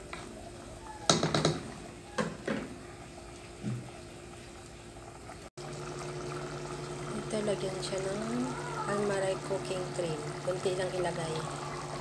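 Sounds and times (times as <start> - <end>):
sauce simmering: 1.7 - 12.0.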